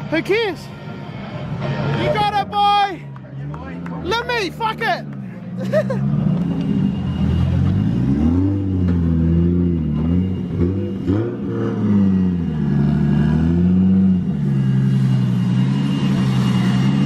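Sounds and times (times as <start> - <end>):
drift car engines revving: 1.4 - 17.0.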